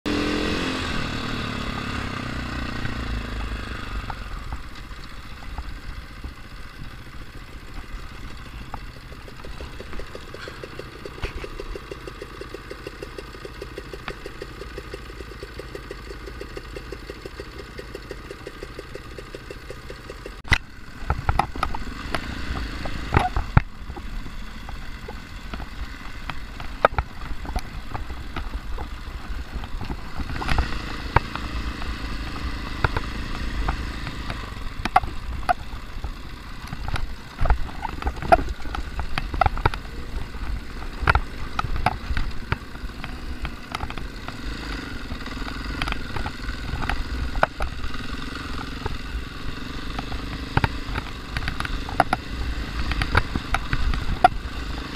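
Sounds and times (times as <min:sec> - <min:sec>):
dirt bike engine: 0:00.1 - 0:54.9
bike knocking and clattering: 0:01.6 - 0:54.9.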